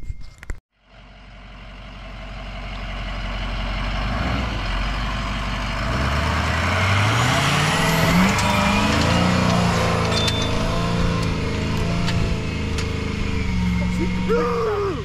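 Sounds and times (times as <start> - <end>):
truck engine revving under load: 1.8 - 15.0.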